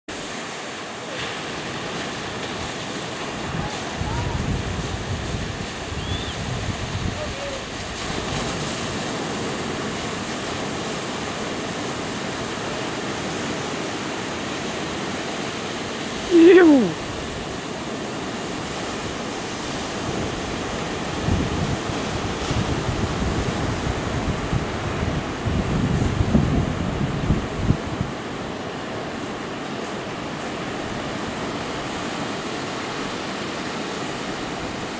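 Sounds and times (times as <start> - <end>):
ocean surf breaking: 0.1 - 34.9
wind rumbling on microphone: 1.5 - 34.9.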